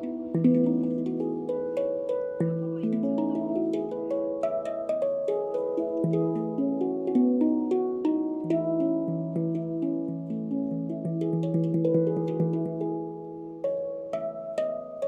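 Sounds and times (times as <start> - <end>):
handpan melody: 0.0 - 15.0.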